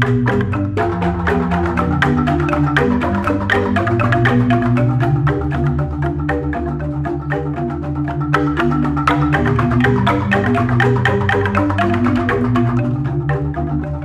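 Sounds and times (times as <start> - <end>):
bamboo xylophone ensemble: 0.0 - 14.0.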